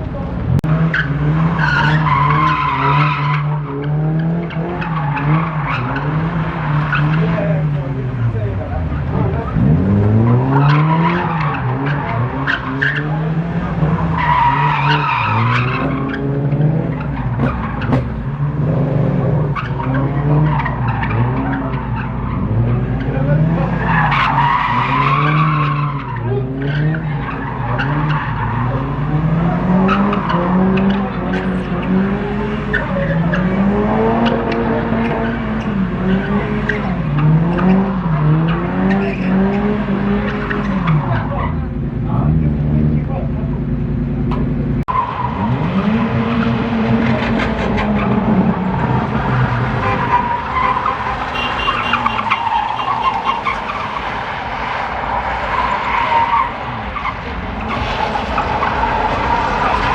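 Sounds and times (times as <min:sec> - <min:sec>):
car engine revving: 0:00.0 - 0:59.9
tyres screeching: 0:00.8 - 0:41.9, 0:44.3 - 0:59.9.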